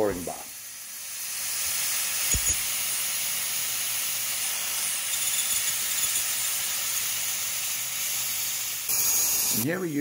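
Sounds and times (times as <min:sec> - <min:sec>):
cutting oil spraying hiss: 0:00.0 - 0:10.0.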